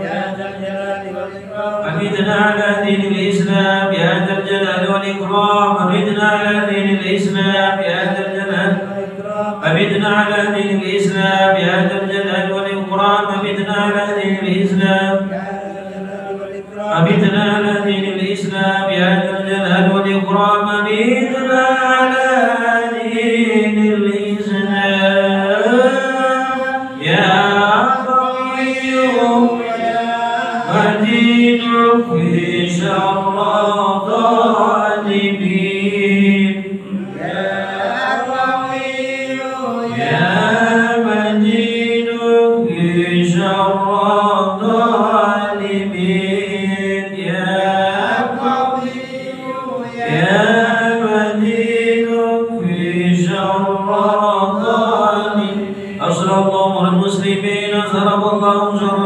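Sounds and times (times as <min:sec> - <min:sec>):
unaccompanied devotional chanting: 0:00.0 - 0:59.0.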